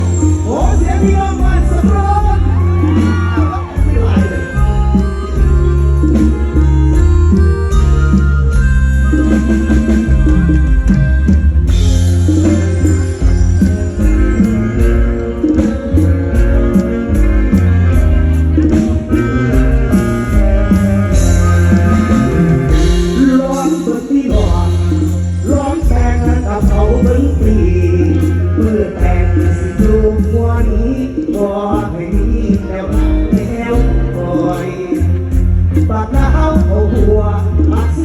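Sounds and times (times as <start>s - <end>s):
live band music: 0.0s - 38.0s.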